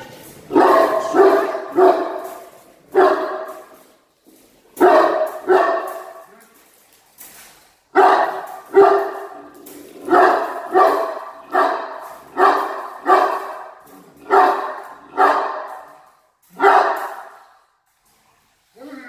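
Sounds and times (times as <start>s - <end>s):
dog barking with room echo: 0.1s - 6.8s, 7.9s - 17.9s.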